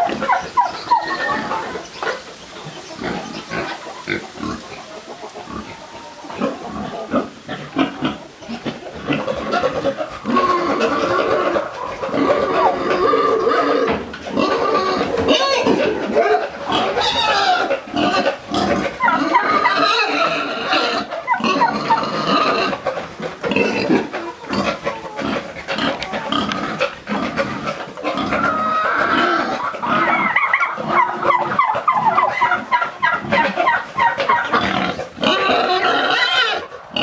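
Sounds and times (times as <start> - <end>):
pigs grunting and squealing: 0.0 - 37.0.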